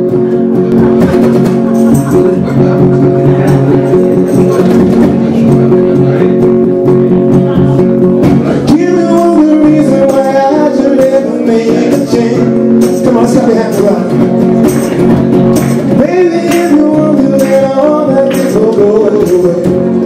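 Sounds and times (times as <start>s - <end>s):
guitars strumming chords: 0.0s - 20.0s.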